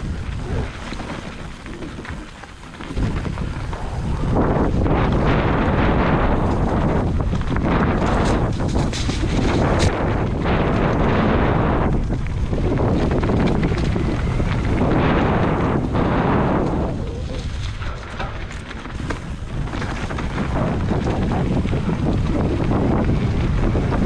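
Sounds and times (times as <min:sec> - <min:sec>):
low rumble: 0:00.0 - 0:18.2, 0:18.9 - 0:24.0
wind buffeting microphone: 0:00.0 - 0:24.0.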